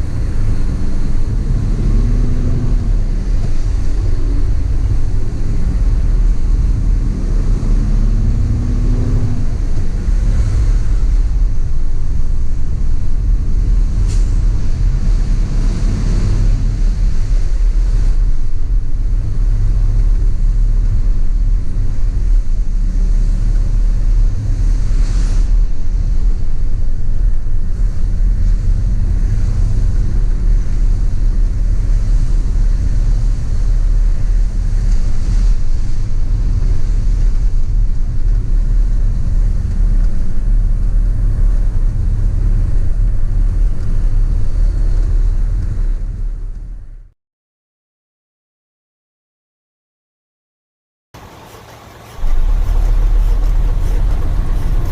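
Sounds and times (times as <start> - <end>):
truck engine and road rumble: 0.0 - 47.1, 51.2 - 54.9.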